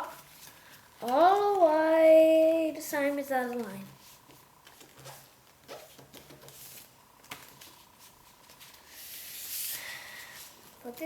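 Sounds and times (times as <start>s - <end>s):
paper rustling and folding: 0.0s - 11.0s.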